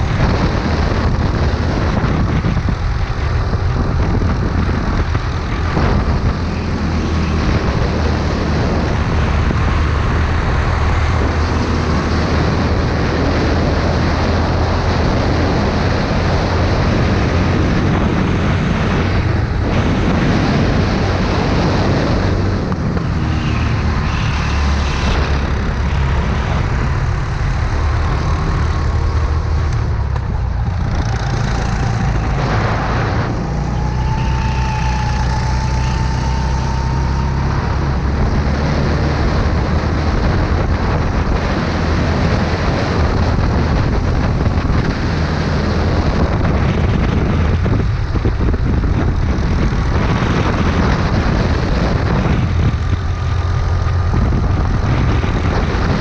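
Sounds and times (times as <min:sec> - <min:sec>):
go-kart engine drone: 0:00.0 - 0:56.0
road and air noise: 0:00.0 - 0:56.0.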